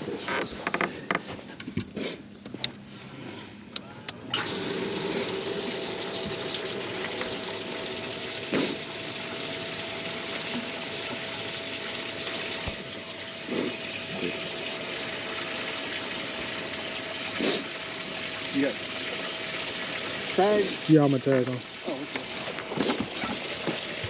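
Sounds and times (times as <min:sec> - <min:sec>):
thin motor whine: 0:03.8 - 0:24.0
pump pouring water: 0:04.3 - 0:24.0.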